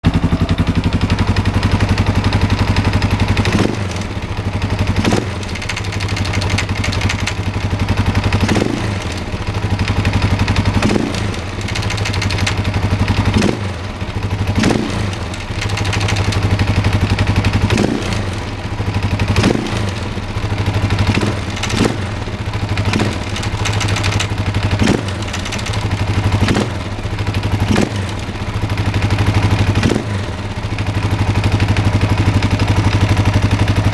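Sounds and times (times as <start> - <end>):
engine rattling: 0.0 - 33.9
motorcycle engine idling: 0.0 - 33.9.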